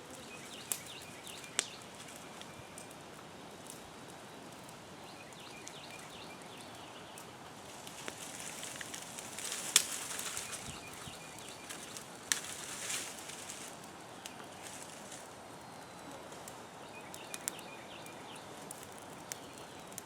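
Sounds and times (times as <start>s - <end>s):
brush fire crackling: 0.0s - 20.0s.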